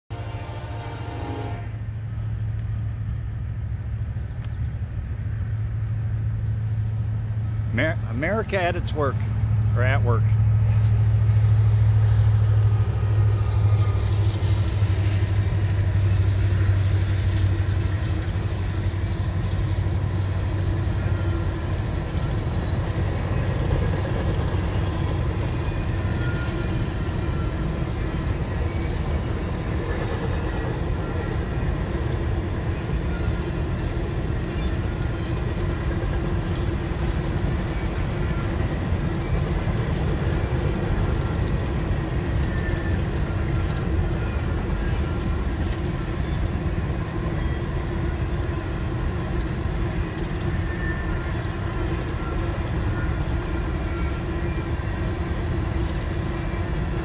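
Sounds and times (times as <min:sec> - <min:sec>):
locomotive engine drone: 0:00.1 - 0:57.0
rail cars rumbling on rails: 0:00.1 - 0:57.0.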